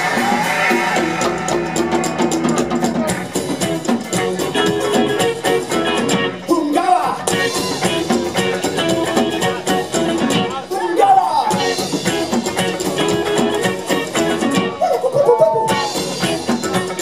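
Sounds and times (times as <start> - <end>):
rock and roll band playing: 0.0 - 17.0.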